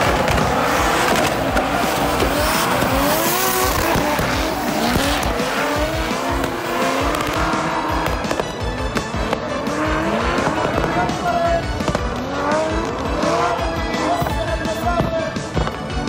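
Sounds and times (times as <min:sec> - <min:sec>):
spinning tyres squealing: 0:00.0 - 0:14.3
car engines revving hard: 0:00.0 - 0:16.0.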